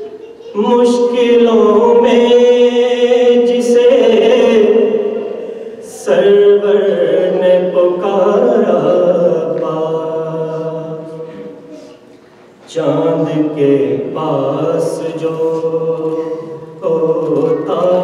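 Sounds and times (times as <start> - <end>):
man chanting unaccompanied: 0.4 - 11.8, 12.7 - 18.0.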